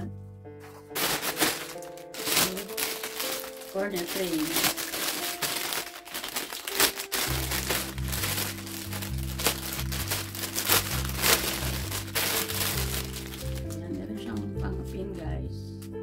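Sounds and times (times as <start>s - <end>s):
plastic bag crinkling: 0.6s - 14.0s.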